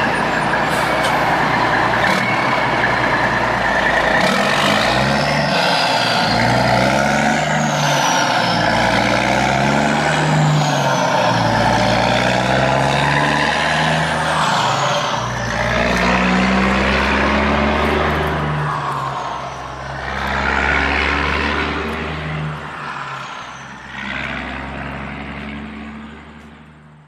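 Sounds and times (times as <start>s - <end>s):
heavy truck engine running: 0.0s - 27.0s.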